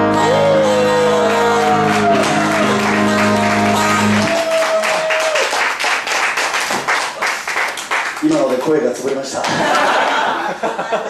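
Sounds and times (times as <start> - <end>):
audience clapping: 0.0 - 10.5.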